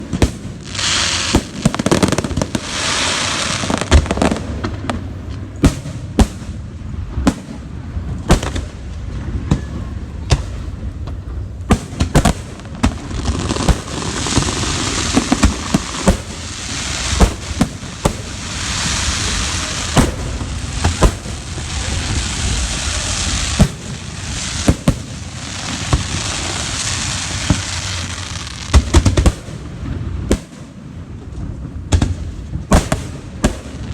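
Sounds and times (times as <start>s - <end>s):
firework booms: 0.0s - 33.9s
firework crackling hiss: 0.0s - 33.9s.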